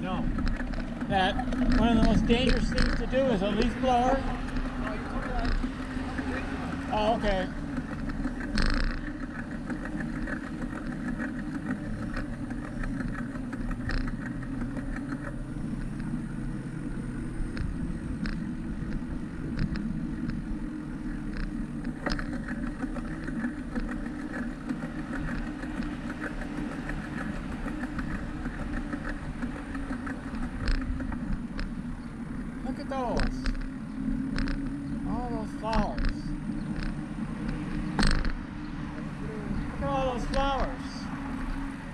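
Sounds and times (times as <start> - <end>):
wind and tyre rumble: 0.0 - 41.9.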